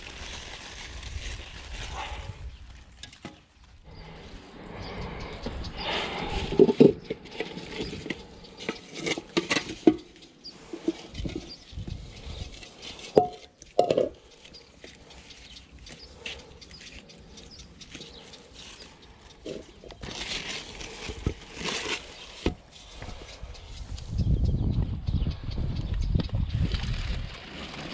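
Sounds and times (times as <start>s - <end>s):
rustling: 0.0s - 23.4s.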